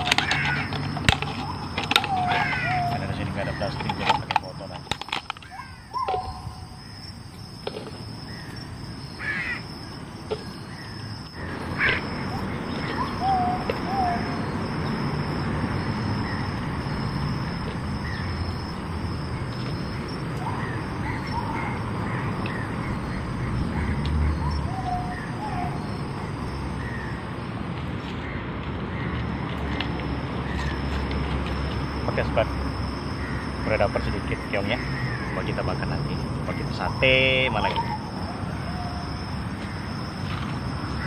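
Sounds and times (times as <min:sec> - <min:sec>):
birds chirping: 0:00.0 - 0:41.0
outdoor background hiss: 0:00.0 - 0:41.0.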